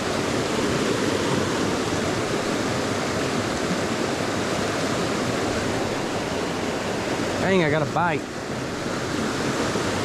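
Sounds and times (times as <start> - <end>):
fast river rushing: 0.0 - 10.0.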